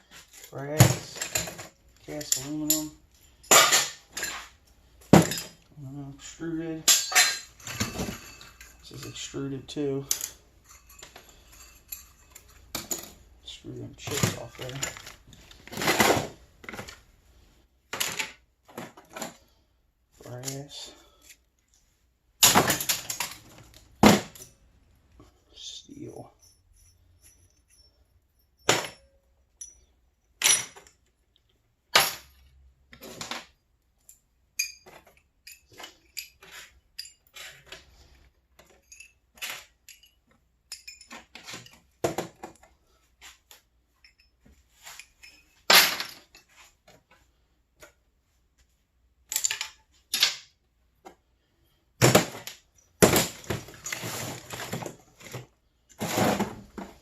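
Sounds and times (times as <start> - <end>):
scrap metal clinking and clanking: 0.0 - 17.1, 20.2 - 31.2, 31.9 - 47.3, 49.2 - 50.6, 52.0 - 57.0.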